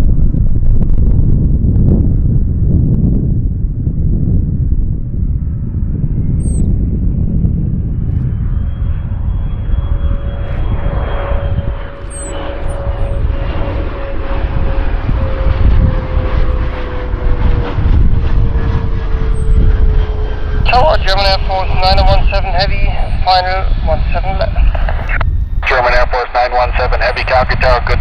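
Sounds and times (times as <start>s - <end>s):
jet aircraft rumble: 0.0s - 28.0s
jet engine whine: 0.0s - 28.0s.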